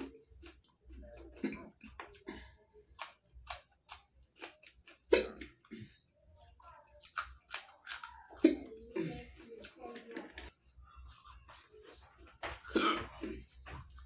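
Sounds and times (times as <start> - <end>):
chillies crunching while chewed: 0.0 - 2.2, 2.9 - 5.7, 7.0 - 14.0.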